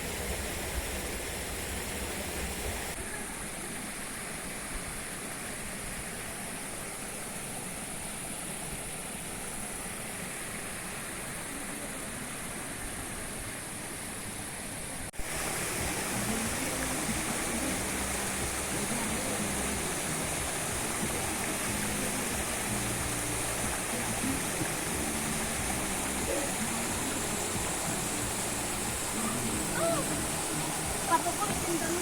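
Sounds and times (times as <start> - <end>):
rushing water roar: 0.0 - 32.0.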